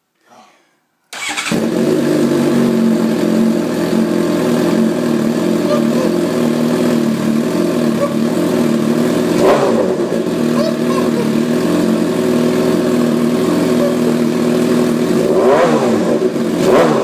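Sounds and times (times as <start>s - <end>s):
motorcycle engine idling: 1.2s - 17.0s.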